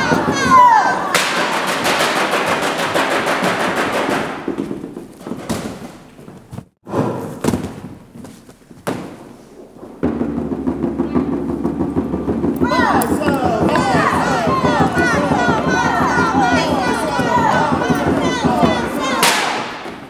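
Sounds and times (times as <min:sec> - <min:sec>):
rattle of sharp knocks: 0:00.0 - 0:06.0, 0:09.8 - 0:20.0.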